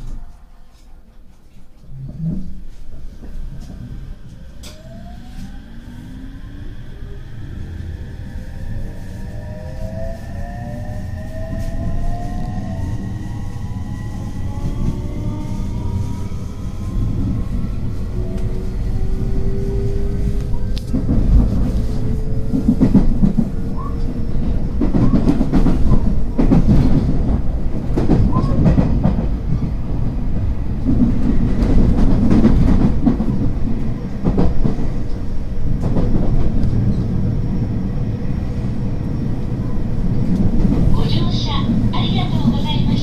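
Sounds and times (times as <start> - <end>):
train rumbling: 0.0 - 43.0.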